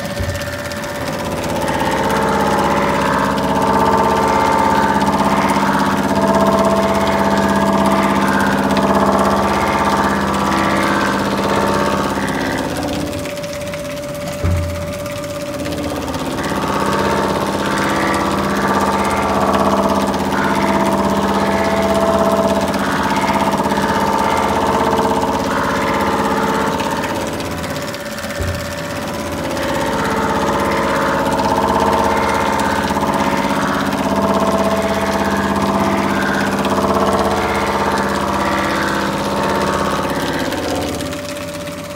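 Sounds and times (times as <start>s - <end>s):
machine knock: 0.0s - 41.9s
resurfacing machine humming: 0.0s - 41.9s.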